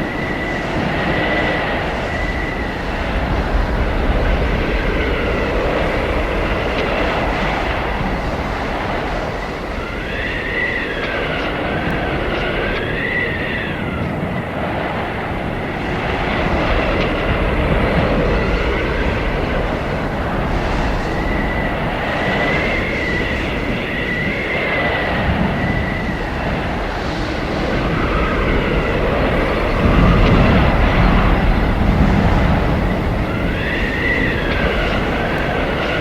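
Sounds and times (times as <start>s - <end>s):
blizzard wind howling: 0.0s - 36.0s
deep wind gust: 0.0s - 36.0s.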